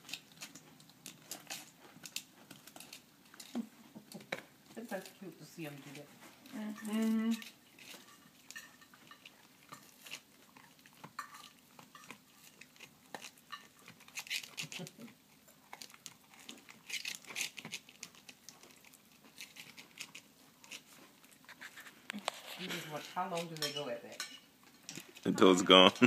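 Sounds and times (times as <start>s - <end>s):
dog chewing bone: 0.0s - 25.2s.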